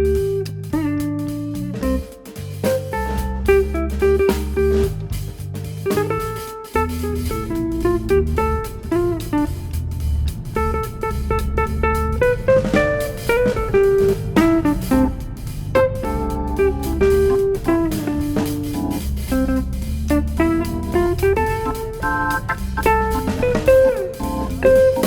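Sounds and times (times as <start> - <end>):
bass: 0.0 - 25.0
light drum beat: 0.0 - 25.0
plucked guitar: 0.0 - 25.0.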